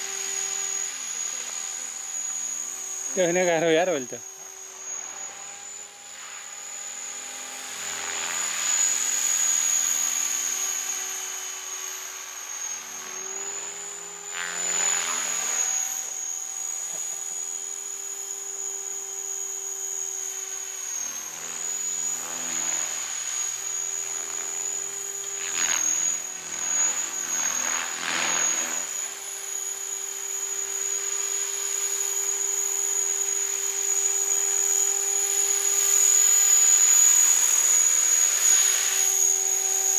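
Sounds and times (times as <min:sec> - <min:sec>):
remote-control helicopter whine: 0:00.0 - 0:39.9.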